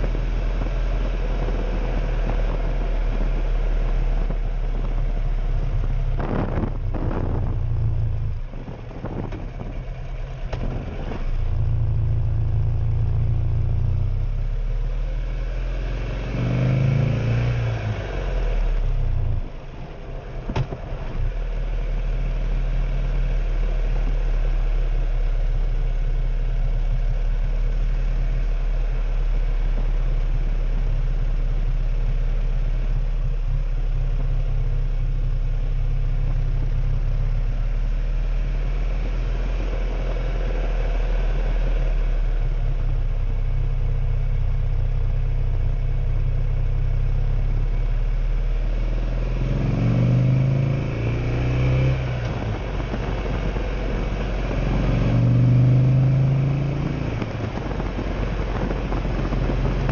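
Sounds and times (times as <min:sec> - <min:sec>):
motorcycle engine running: 0:00.0 - 0:15.3, 0:18.1 - 0:59.9.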